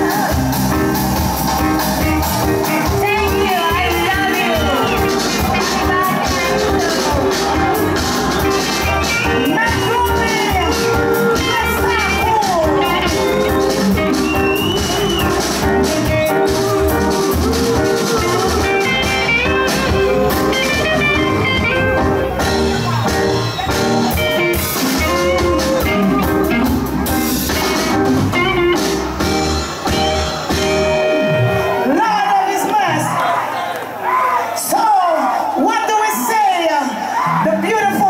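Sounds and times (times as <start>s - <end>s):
bass: 0.0s - 32.2s
drums: 0.0s - 33.1s
electric guitar: 0.0s - 33.2s
live band playing: 0.0s - 38.0s.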